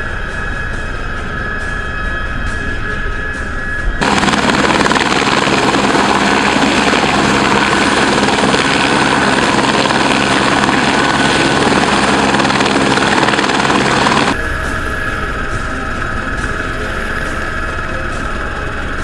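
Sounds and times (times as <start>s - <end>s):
helicopter rotor and engine: 0.0s - 19.0s.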